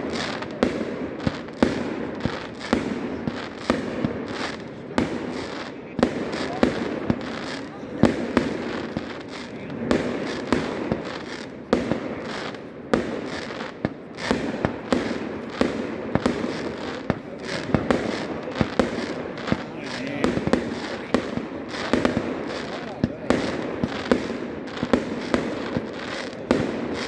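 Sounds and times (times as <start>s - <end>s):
crackling hiss: 0.0s - 27.0s
fireworks bangs: 0.0s - 27.0s.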